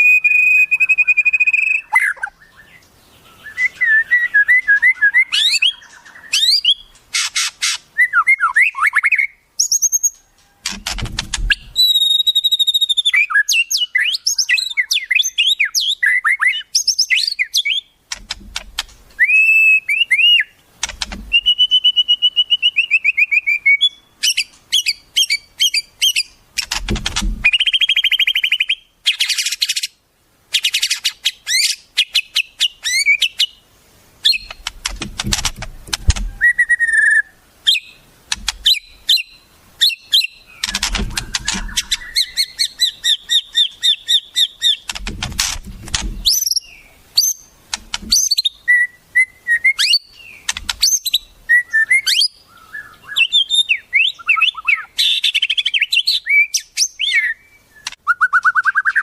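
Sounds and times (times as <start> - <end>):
songbird singing varied song: 0.0 - 59.0.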